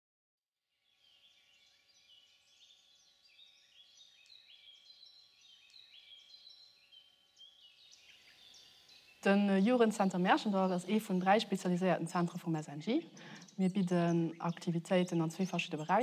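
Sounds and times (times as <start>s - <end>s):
songbirds chirping: 0.7s - 16.0s.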